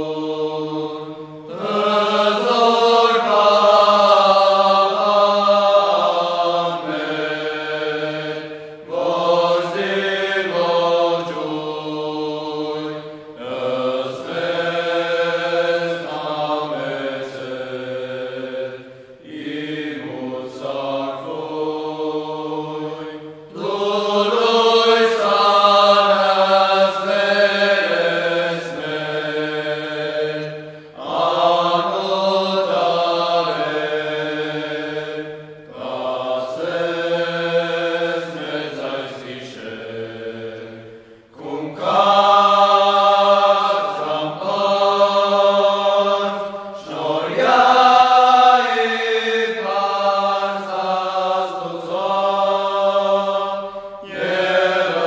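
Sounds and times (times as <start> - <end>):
church chant: 0.0 - 55.0.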